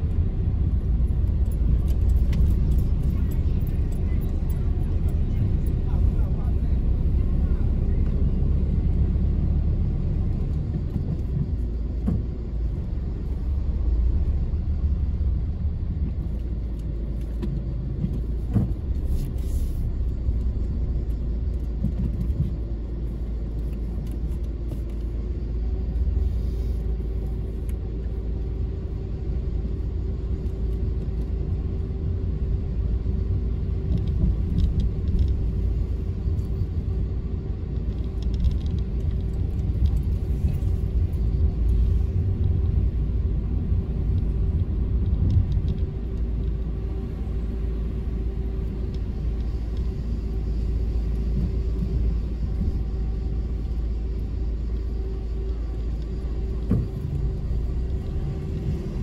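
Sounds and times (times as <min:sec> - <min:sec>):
car engine and tyres rumbling: 0:00.0 - 0:59.0
steady hum: 0:00.0 - 0:59.0.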